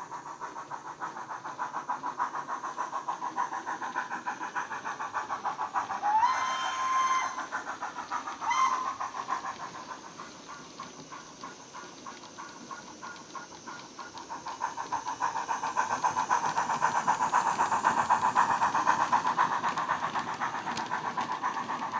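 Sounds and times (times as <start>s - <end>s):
steam locomotive exhaust chuffs: 0.0s - 21.9s.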